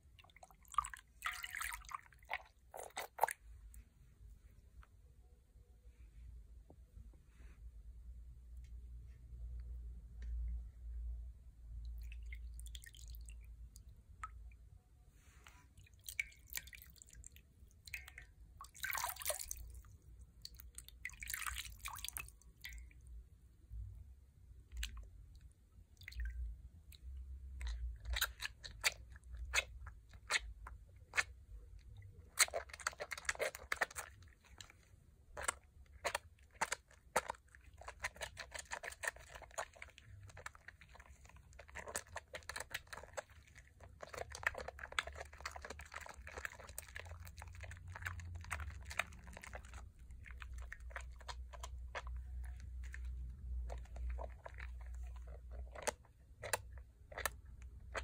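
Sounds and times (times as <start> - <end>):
wet hands lathering soap: 0.0 - 3.9, 11.8 - 14.4, 15.5 - 23.1, 24.6 - 58.0.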